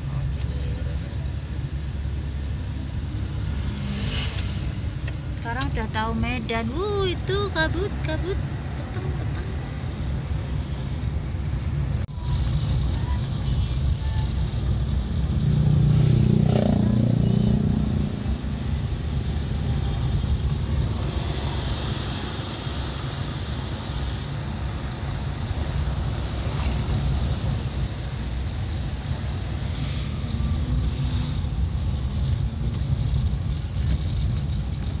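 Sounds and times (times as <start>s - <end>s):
engine running inside cab: 0.0s - 15.9s, 17.8s - 35.0s
road and wind noise: 0.0s - 35.0s.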